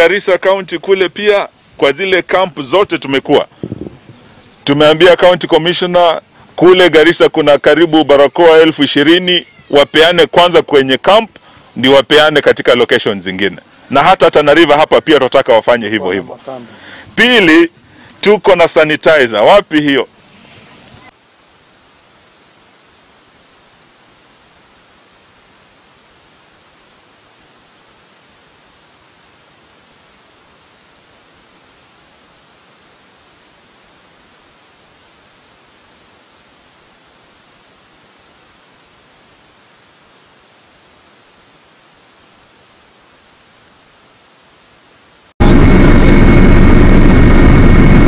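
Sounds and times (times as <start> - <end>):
static hiss: 0.0 - 48.0.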